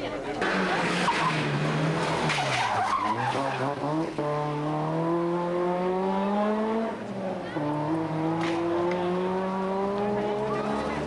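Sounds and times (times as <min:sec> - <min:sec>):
rally car engine revving: 0:00.4 - 0:11.0.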